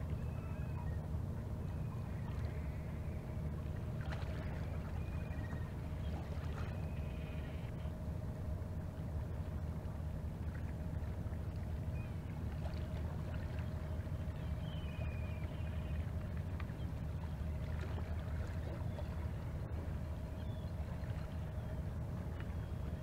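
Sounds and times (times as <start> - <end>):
boat engine low drone: 0.0 - 23.0.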